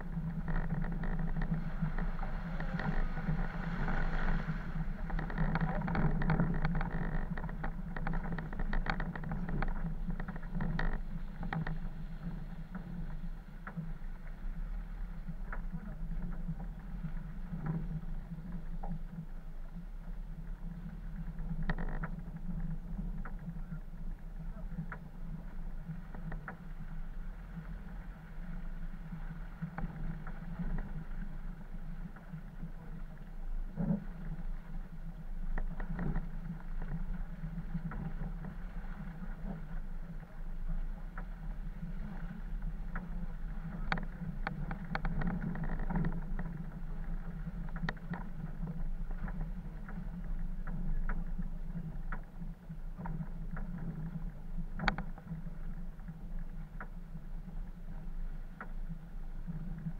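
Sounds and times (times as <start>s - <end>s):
off-road vehicle engine droning: 0.0s - 55.3s.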